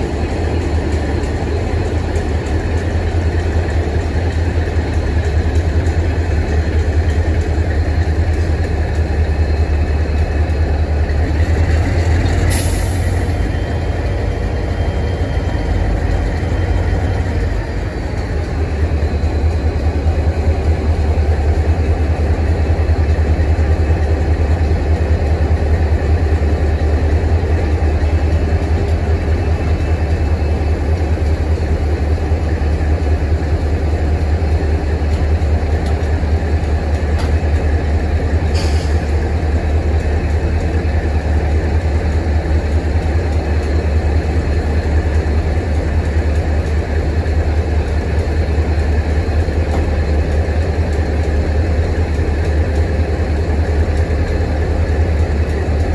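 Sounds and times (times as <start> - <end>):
diesel train engine idling: 0.0 - 55.9.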